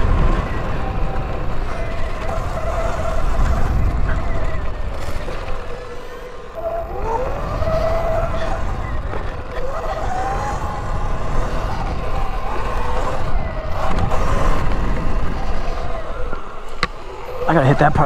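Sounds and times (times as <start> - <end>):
electric dirt bike motor whining: 0.0 - 18.0
wind rumble on microphone: 0.0 - 18.0.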